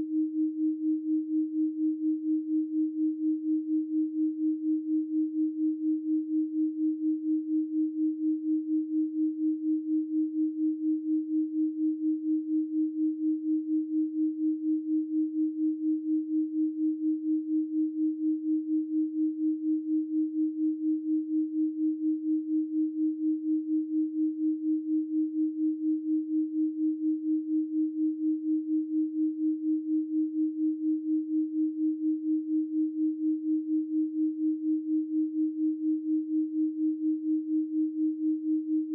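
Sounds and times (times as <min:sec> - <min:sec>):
pulsing pure sine tone: 0:00.0 - 0:38.9.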